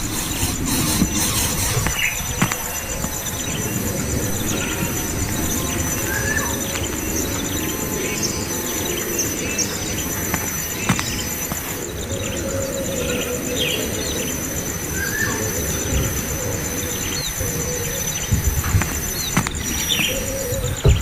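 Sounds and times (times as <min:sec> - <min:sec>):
nestling birds chirping: 0:00.0 - 0:21.0
pulsing insect trill: 0:00.0 - 0:21.0.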